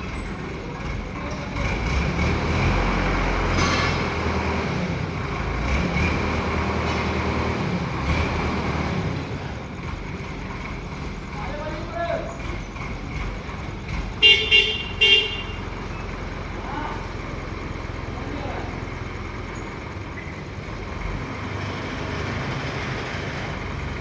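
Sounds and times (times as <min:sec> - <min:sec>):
heavy engine running: 0:00.0 - 0:24.0.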